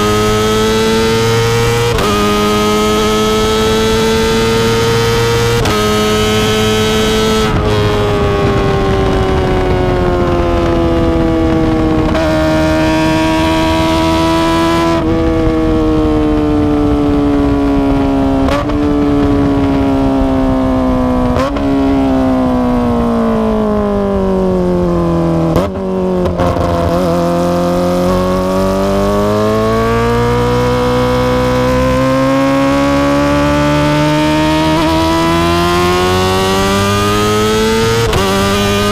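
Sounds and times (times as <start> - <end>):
motorcycle engine high revs: 0.0 - 15.5, 16.2 - 38.9.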